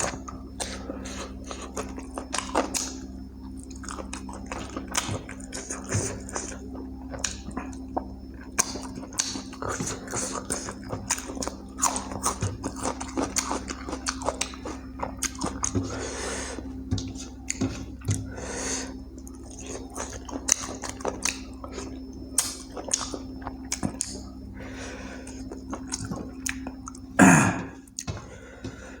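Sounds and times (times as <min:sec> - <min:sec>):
chewing and wet mouth sounds: 0:00.0 - 0:29.0
steady low hum: 0:00.0 - 0:29.0.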